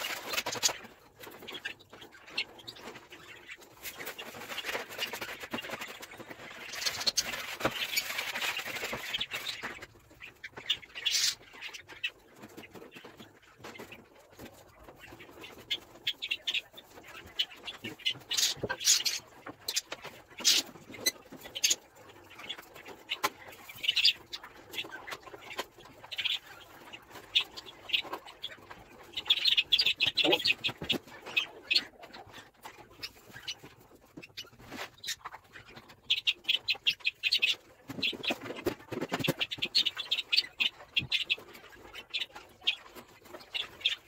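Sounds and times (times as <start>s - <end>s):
cage birds chirping: 0.0s - 44.0s.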